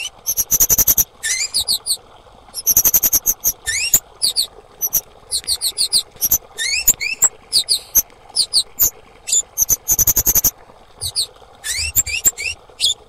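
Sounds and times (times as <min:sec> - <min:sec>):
bird calling high-pitched chips: 0:00.0 - 0:02.0, 0:02.6 - 0:13.0.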